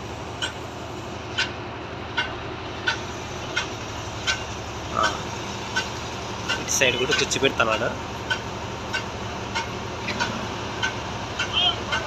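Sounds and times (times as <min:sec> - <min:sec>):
hum of traffic and machinery: 0:00.0 - 0:12.0.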